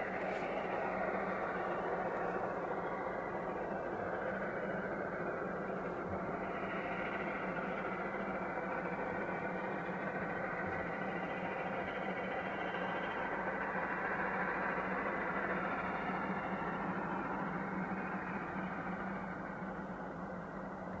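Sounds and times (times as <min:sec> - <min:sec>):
low hum: 0:00.0 - 0:21.0
train rumbling: 0:00.0 - 0:21.0.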